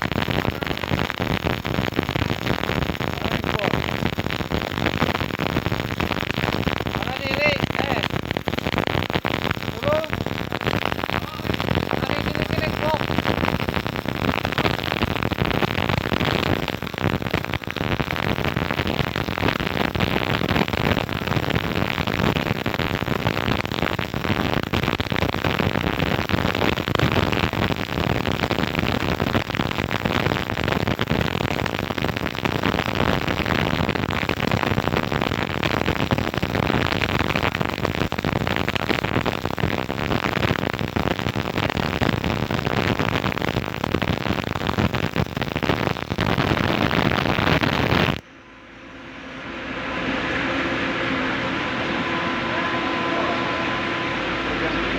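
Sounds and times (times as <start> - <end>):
welder arc crackling: 0.0 - 54.9.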